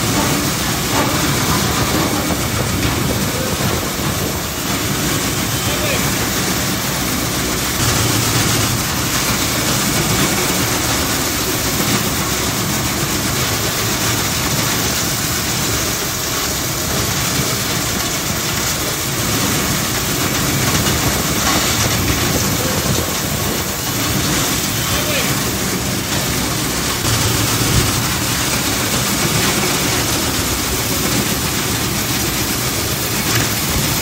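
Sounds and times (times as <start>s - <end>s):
air rushing through metal duct: 0.0s - 34.0s.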